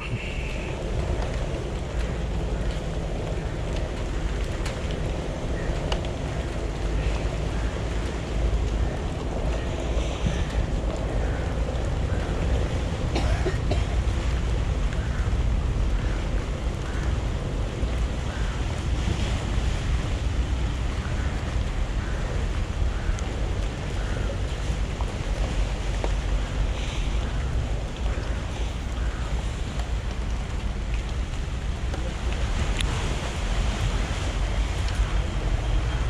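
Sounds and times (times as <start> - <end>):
open water: 0.0 - 36.0
wind buffeting microphone: 0.0 - 36.0.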